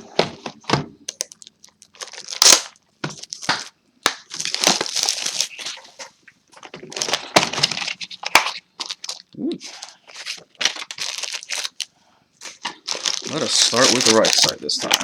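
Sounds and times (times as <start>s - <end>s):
plastic and foil packaging crinkling: 1.1s - 15.0s.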